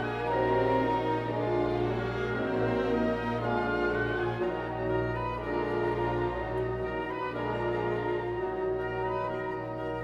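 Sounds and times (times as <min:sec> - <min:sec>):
slow orchestral music: 0:00.0 - 0:10.0.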